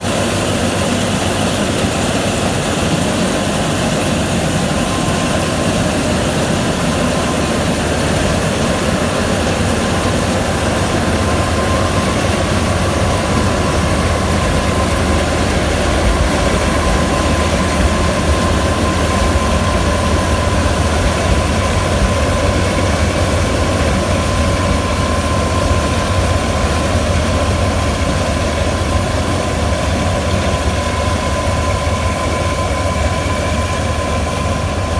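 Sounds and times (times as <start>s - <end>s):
combine harvester engine drone: 0.0s - 34.9s
faint steady whine: 0.0s - 34.9s.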